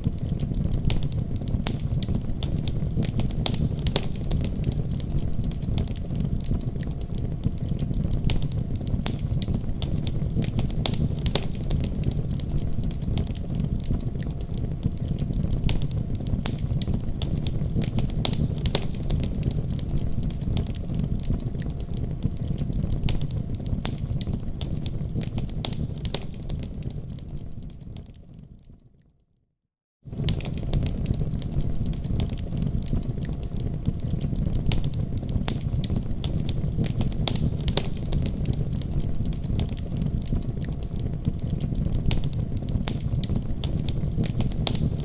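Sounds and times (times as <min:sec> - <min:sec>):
fire crackling and popping: 0:00.0 - 0:29.0, 0:30.1 - 0:45.0.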